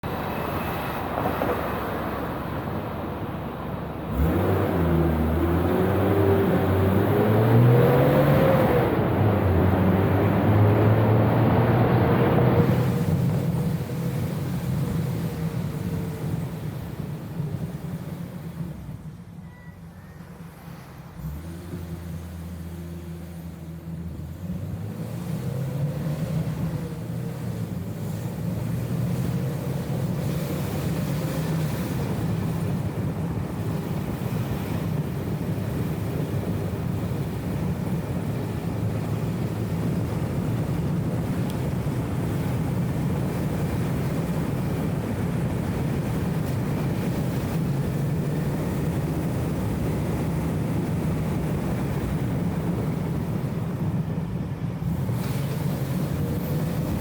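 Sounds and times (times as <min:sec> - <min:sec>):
car engine droning: 0:00.0 - 0:57.0
road noise: 0:00.0 - 0:57.0.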